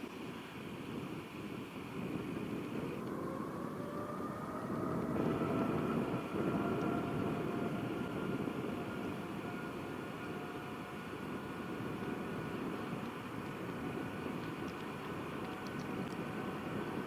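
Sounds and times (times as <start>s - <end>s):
jet engine whine: 0.0s - 17.0s
jet engines rumbling: 0.0s - 17.0s.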